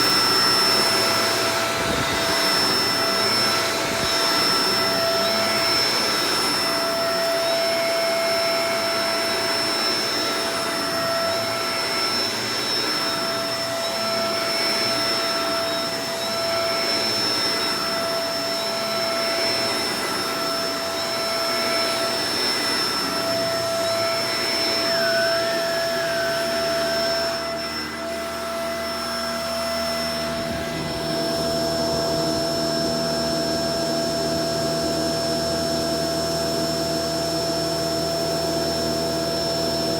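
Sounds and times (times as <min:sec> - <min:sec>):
vacuum cleaner whining hum: 0:00.0 - 0:39.9.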